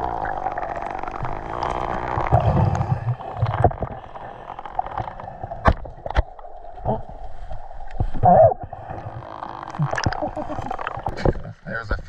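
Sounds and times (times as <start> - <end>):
muffled underwater river current: 0.0 - 12.0.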